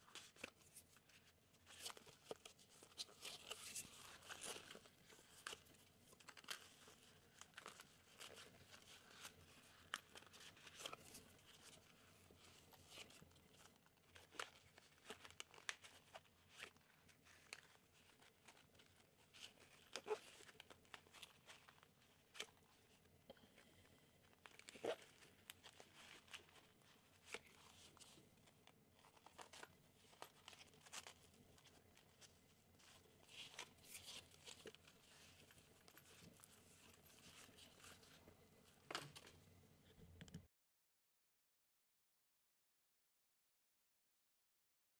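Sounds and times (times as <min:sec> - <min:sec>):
fabric rustling and crinkling: 0:00.0 - 0:23.0, 0:23.6 - 0:39.4.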